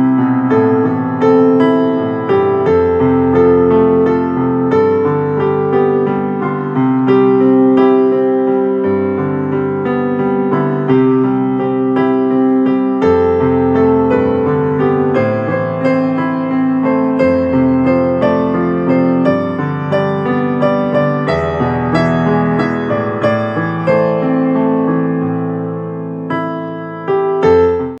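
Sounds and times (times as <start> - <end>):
electric piano ringtone tune: 0.0 - 28.0.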